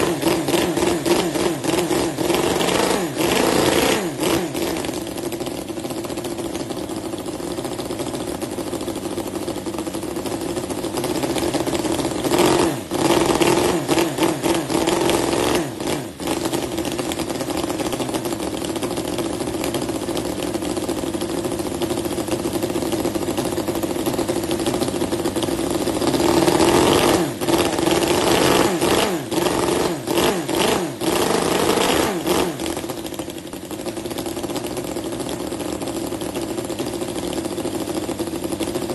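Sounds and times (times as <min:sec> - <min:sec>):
model engine running and revving: 0:00.0 - 0:38.9.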